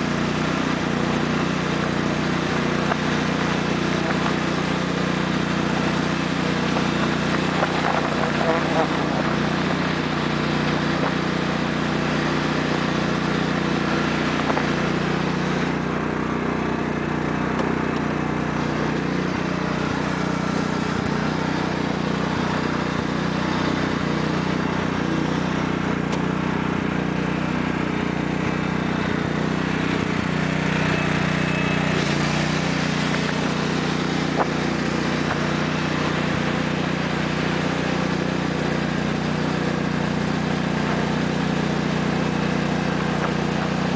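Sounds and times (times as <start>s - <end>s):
lawn tractor engine running: 0.0s - 43.9s.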